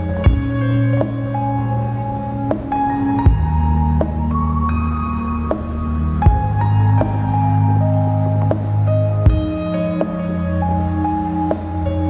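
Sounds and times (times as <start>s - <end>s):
ambient background music: 0.0s - 12.0s.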